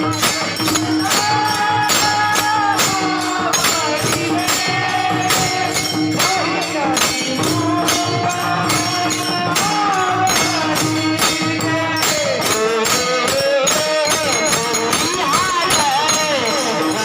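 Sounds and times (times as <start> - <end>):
high solo voice singing: 0.0 - 17.0
metallic percussion beats: 0.0 - 17.0.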